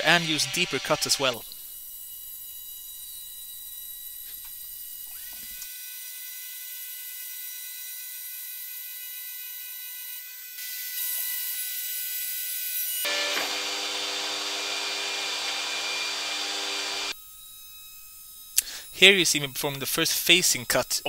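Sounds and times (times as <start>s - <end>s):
router high whine: 0.0s - 11.8s, 13.0s - 20.8s.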